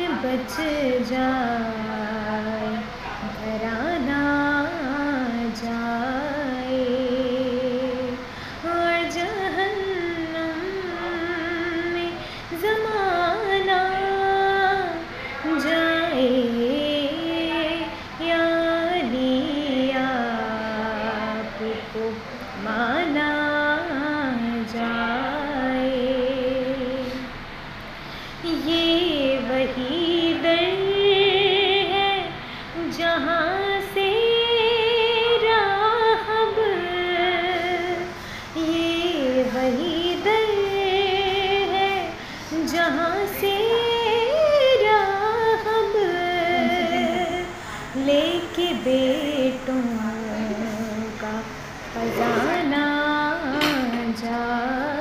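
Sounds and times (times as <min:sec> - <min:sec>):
woman singing unaccompanied: 0:00.0 - 0:27.4, 0:28.4 - 0:55.0.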